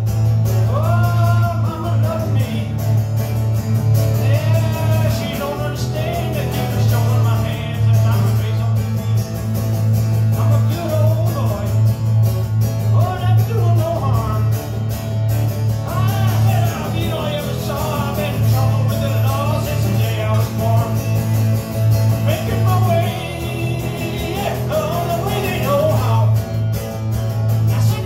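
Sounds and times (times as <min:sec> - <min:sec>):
strummed acoustic guitar: 0:00.0 - 0:28.0
man singing: 0:00.5 - 0:03.0, 0:04.0 - 0:12.0, 0:12.8 - 0:14.8, 0:15.7 - 0:26.6, 0:27.6 - 0:28.0.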